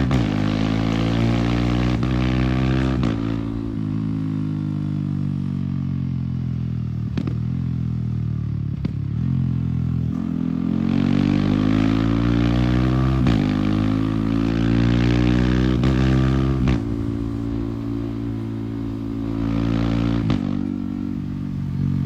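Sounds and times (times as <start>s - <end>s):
motorcycle engine under throttle: 0.0s - 22.0s.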